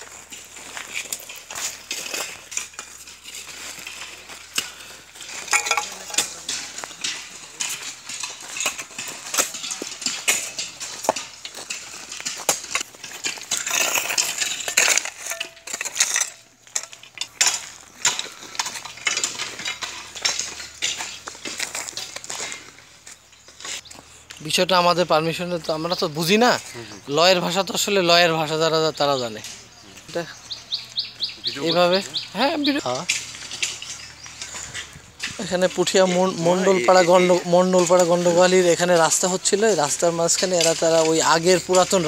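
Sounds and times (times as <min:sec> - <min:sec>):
hoe scraping through rubble: 0:00.0 - 0:42.0.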